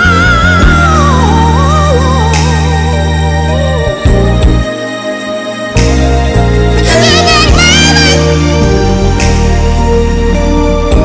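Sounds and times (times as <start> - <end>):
slow love song instrumental: 0.0 - 11.0.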